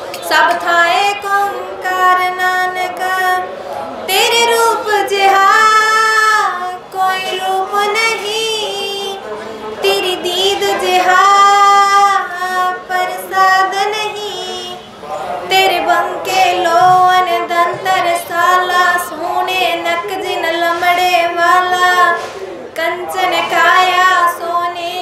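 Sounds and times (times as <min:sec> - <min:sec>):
woman singing into microphone: 0:00.0 - 0:09.2, 0:09.8 - 0:25.0.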